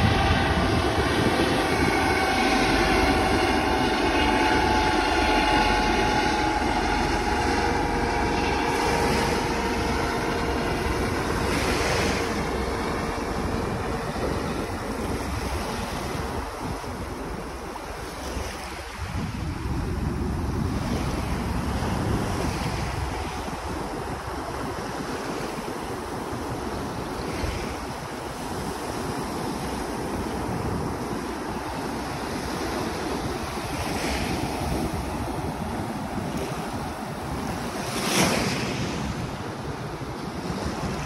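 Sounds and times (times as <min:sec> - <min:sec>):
ocean surf washing: 0:00.0 - 0:41.0
wind buffeting microphone: 0:00.0 - 0:41.0.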